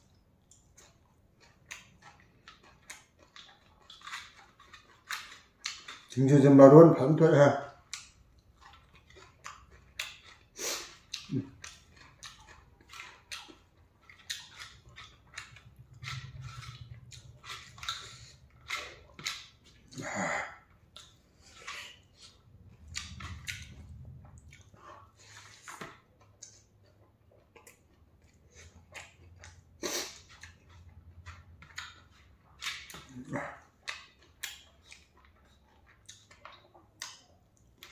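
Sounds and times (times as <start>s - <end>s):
person chewing with wet mouth smacks: 0.0s - 6.2s, 7.7s - 37.9s.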